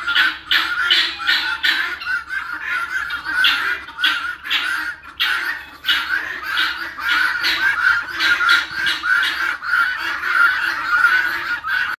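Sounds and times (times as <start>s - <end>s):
guinea fowl calling: 0.0s - 12.0s.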